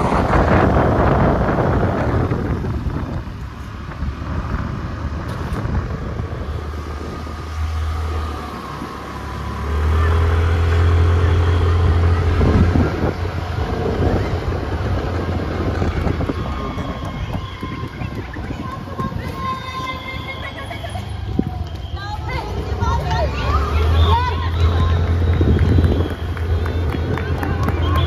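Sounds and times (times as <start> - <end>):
wind buffeting microphone: 0.0 - 20.4, 21.0 - 28.0
steady outdoor noise: 0.0 - 28.0.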